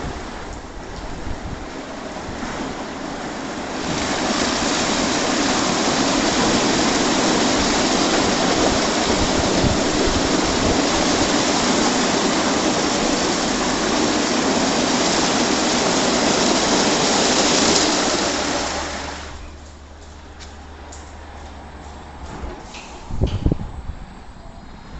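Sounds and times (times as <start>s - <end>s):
car wash water spraying: 0.0s - 22.2s.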